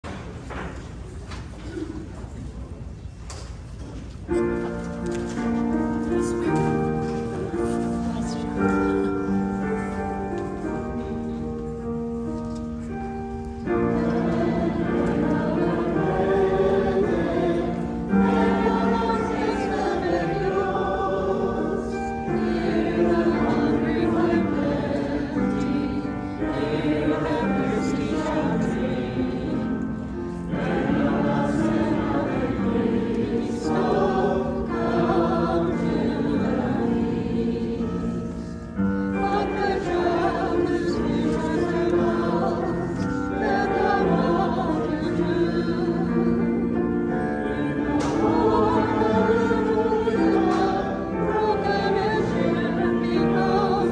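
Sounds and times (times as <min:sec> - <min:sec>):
choir singing a hymn: 0:04.4 - 0:53.9.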